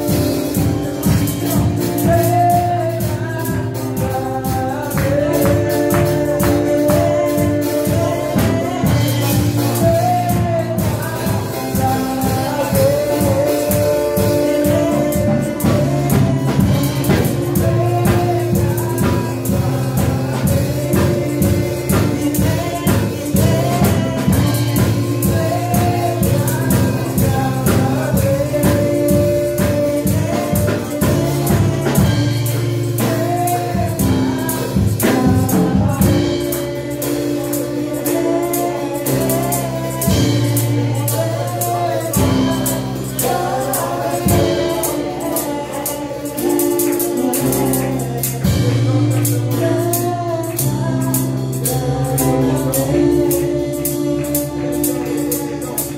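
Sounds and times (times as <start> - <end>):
drum kit beat: 0.0 - 55.9
electronic keyboard chords: 0.0 - 55.9
women singing: 0.0 - 55.9.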